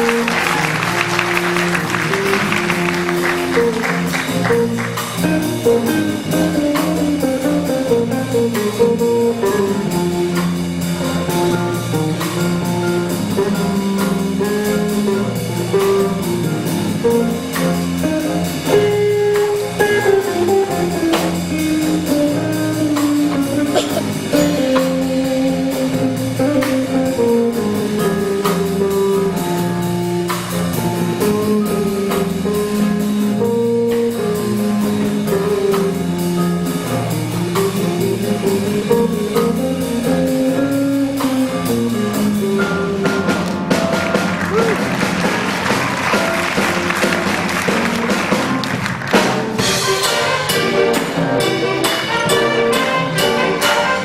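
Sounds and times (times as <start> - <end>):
band playing jazz-blues: 0.0 - 54.0.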